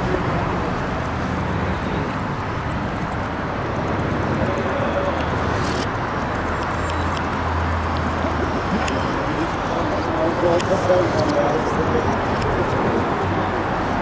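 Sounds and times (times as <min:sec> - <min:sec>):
faint clicks: 0:00.0 - 0:14.0
low traffic rumble: 0:00.0 - 0:14.0.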